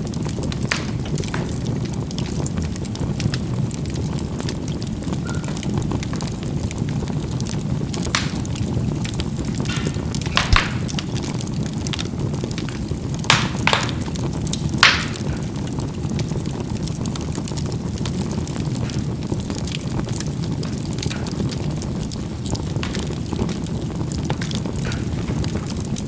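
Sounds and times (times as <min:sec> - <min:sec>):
charcoal fire rushing: 0:00.0 - 0:26.0
coals popping: 0:00.0 - 0:26.0.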